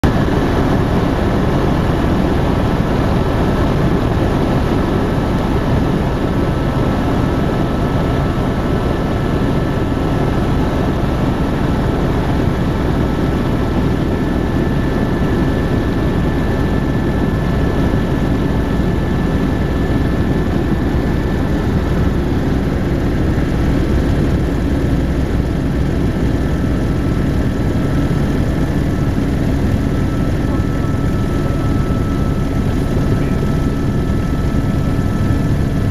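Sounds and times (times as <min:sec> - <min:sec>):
helicopter rotor and engine drone: 0:00.0 - 0:35.9.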